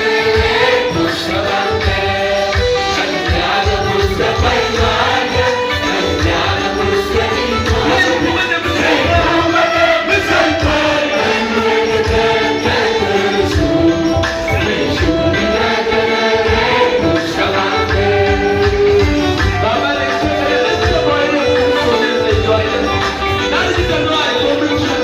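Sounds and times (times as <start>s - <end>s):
group singing gospel: 0.0s - 25.0s
percussion and instruments: 0.0s - 25.0s.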